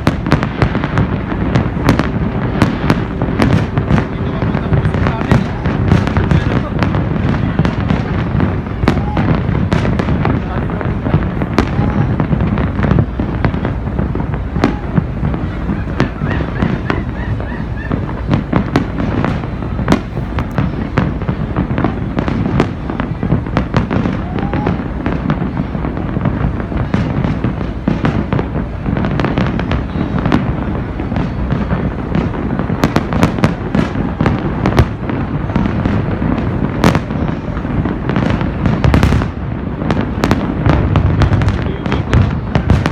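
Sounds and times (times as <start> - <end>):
fireworks bangs and crackles: 0.0 - 42.9
steady low rumble: 0.0 - 42.9.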